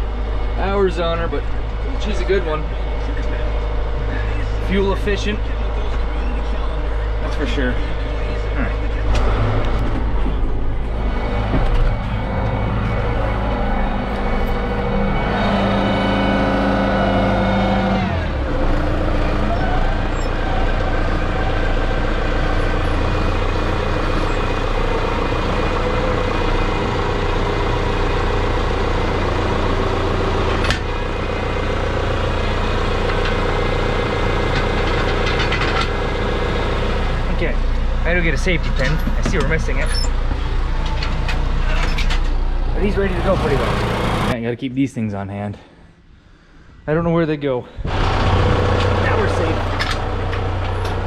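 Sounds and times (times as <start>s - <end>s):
tractor diesel engine running: 0.0s - 44.4s, 46.9s - 51.0s.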